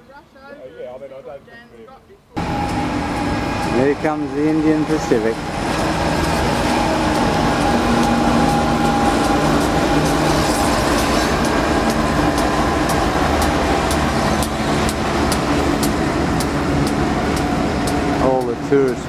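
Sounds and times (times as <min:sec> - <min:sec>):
diesel locomotive engine running: 0:02.4 - 0:19.0.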